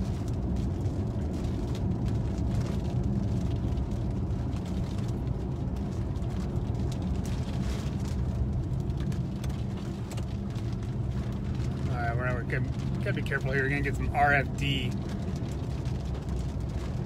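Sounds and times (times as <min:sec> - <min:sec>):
car cabin road rumble: 0:00.0 - 0:17.0.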